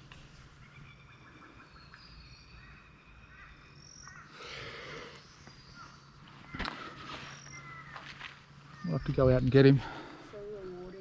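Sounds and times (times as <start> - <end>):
birds whistling: 0.6 - 11.0.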